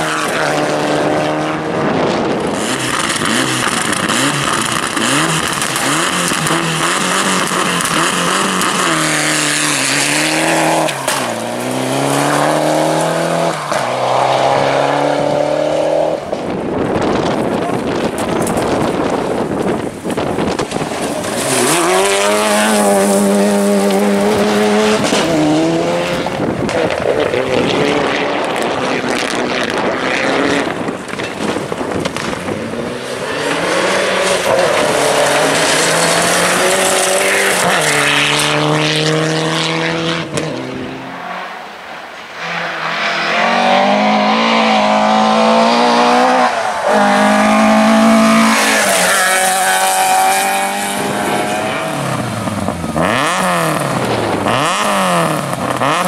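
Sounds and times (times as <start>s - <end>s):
rally car engines revving: 0.0s - 56.0s
tyre and road noise: 0.0s - 56.0s.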